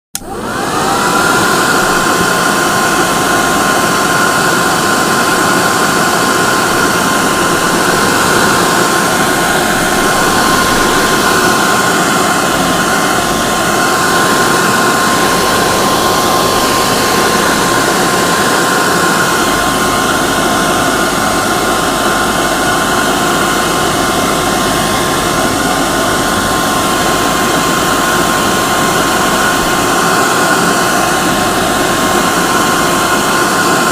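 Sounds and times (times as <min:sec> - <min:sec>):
hair dryer running: 0:00.2 - 0:33.9.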